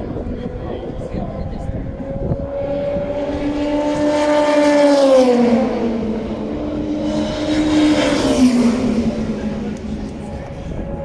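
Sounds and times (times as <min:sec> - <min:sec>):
race cars passing at speed: 0:00.0 - 0:11.0.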